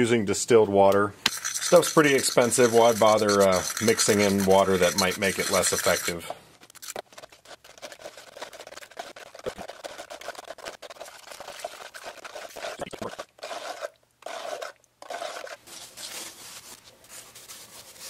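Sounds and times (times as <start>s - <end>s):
metal spoon scraping in plastic tub: 1.3s - 16.4s.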